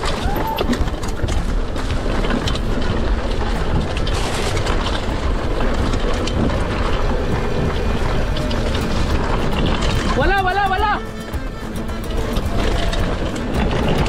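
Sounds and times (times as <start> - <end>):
bike rattling and clicking: 0.0 - 14.0
tyres on dirt and leaves: 0.0 - 14.0
wind rumbling on microphone: 0.0 - 14.0.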